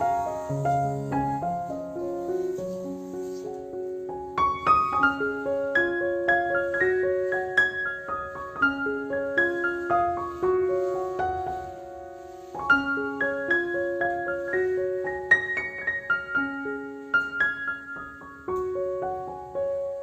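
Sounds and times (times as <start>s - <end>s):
solo piano music: 0.0s - 20.0s.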